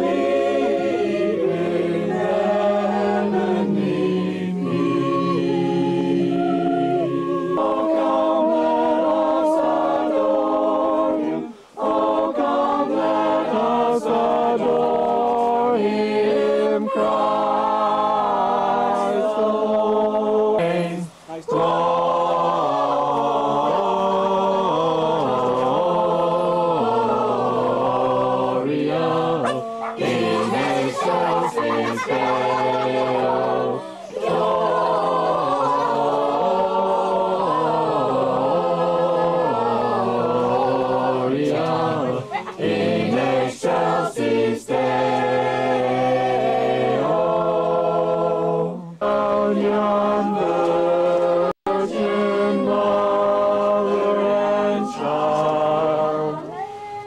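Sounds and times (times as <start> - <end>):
group singing unaccompanied: 0.0 - 57.0.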